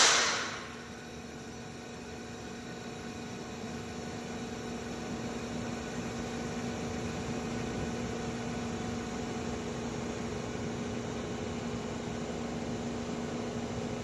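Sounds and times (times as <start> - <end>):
subway train ventilation hum: 0.0 - 14.0.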